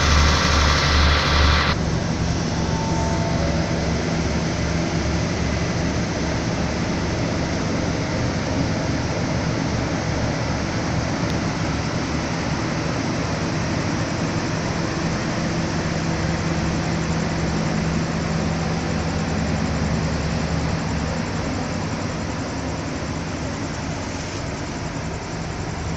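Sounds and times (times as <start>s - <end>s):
diesel train running: 0.0s - 25.9s.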